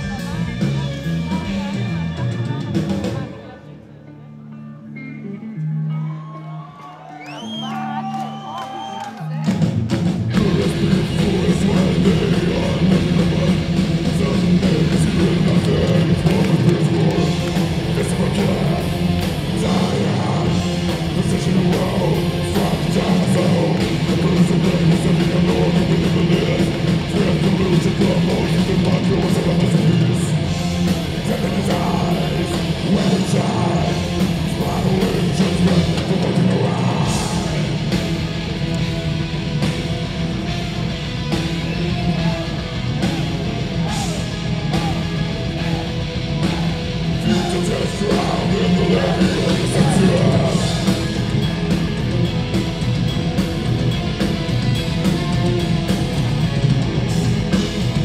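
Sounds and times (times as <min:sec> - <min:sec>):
drum kit: 0:00.0 - 0:03.5, 0:09.4 - 0:58.0
vocals: 0:00.0 - 0:05.1, 0:06.0 - 0:58.0
distorted electric guitars: 0:00.0 - 0:06.5, 0:08.0 - 0:58.0
bass: 0:00.0 - 0:58.0.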